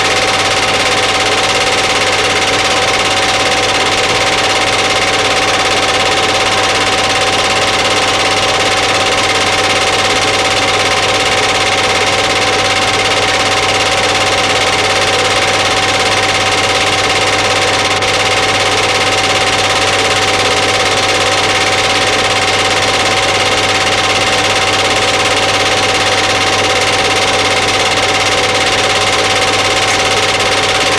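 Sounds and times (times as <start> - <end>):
machine whir: 0.0 - 30.9.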